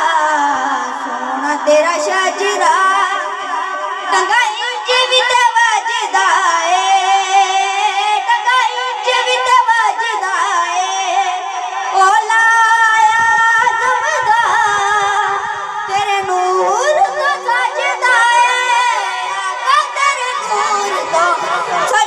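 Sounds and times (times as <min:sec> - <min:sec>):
boy singing into a microphone: 0:00.0 - 0:22.0.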